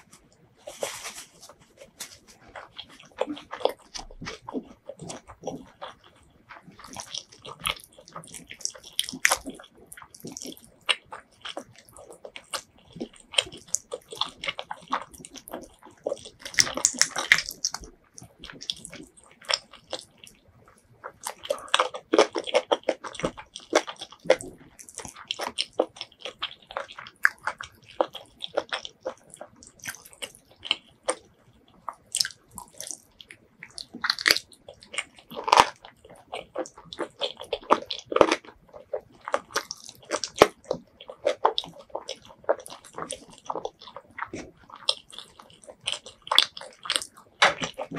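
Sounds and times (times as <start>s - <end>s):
close-up chewing and biting: 0.0s - 47.9s.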